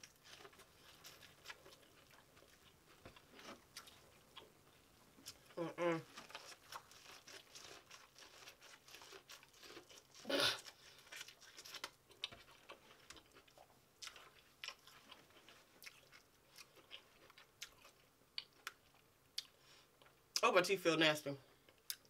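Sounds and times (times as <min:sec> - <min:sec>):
chewing corn on the cob: 0:00.0 - 0:20.2.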